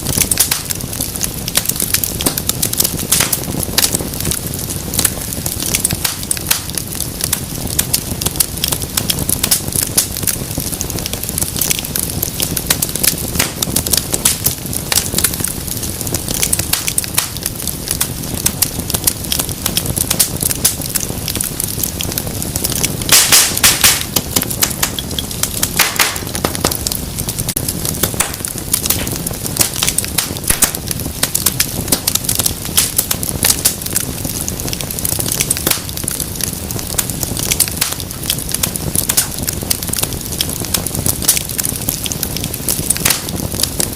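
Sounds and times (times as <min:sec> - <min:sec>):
loud pops from fire: 0:00.0 - 0:43.9
wood fire crackling: 0:00.0 - 0:43.9.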